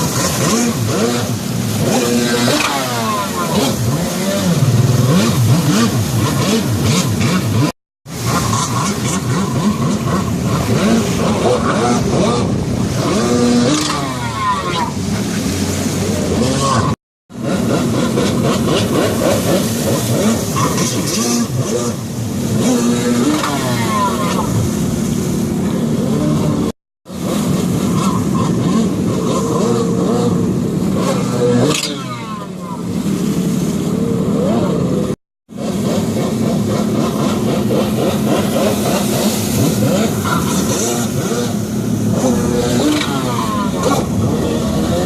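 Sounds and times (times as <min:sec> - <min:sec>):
jet ski engine revving: 0:00.0 - 0:45.0.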